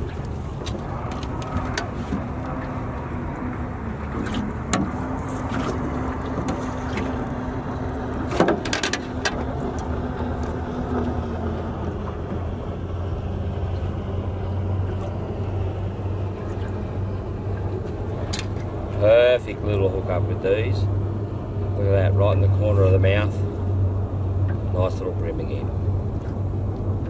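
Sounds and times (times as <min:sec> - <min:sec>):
low steady hum: 0:00.0 - 0:27.0
water noise: 0:00.0 - 0:27.0
wind: 0:00.0 - 0:27.0.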